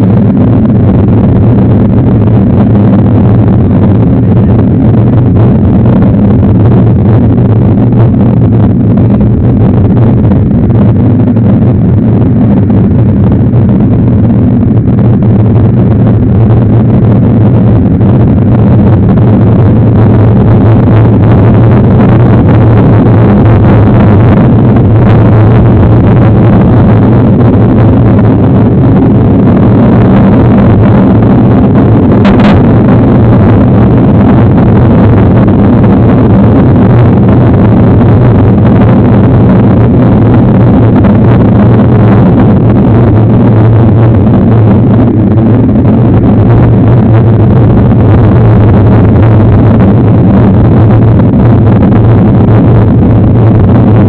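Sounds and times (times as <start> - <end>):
wind and riding noise: 0.0 - 54.0.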